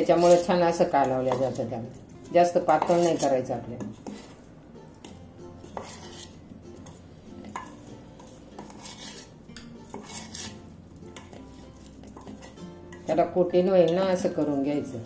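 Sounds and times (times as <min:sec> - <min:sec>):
spoon scraping a steel bowl: 0:00.0 - 0:15.0.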